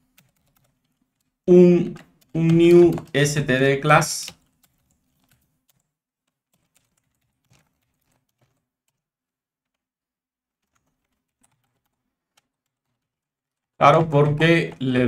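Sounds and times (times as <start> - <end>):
computer keyboard typing: 0.0 - 9.8, 10.5 - 15.0.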